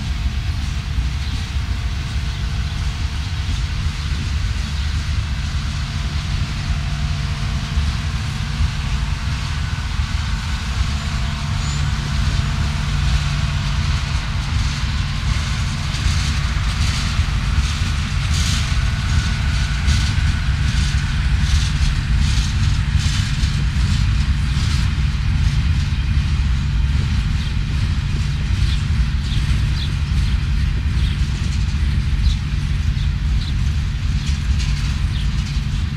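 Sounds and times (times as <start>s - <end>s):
diesel locomotive rumble: 0.0s - 35.9s
wheels clattering on rails: 0.0s - 35.9s.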